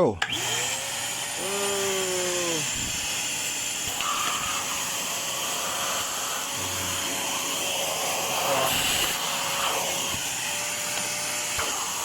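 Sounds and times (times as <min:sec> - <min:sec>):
vacuum cleaner running: 0:00.2 - 0:12.0.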